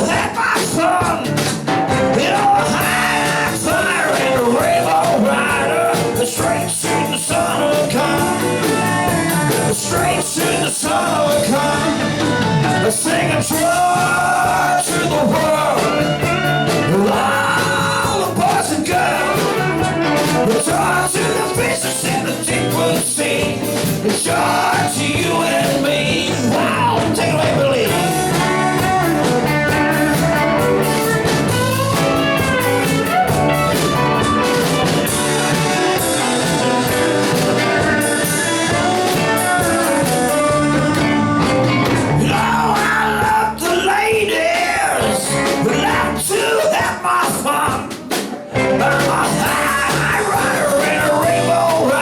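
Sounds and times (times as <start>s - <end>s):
bending lead guitar line: 0.0s - 47.1s, 47.7s - 52.0s
rock band playing: 0.0s - 52.0s.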